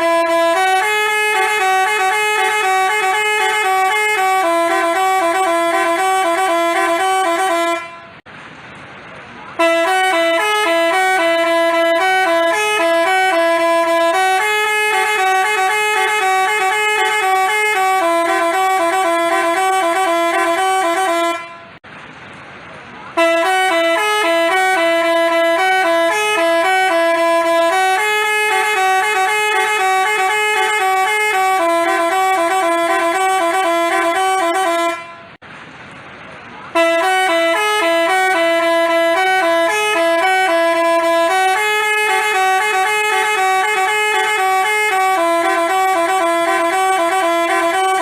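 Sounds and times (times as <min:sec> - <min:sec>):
bus horn playing multi-note tune: 0:00.0 - 0:08.3, 0:09.5 - 0:21.8, 0:23.1 - 0:35.4, 0:36.7 - 0:48.0.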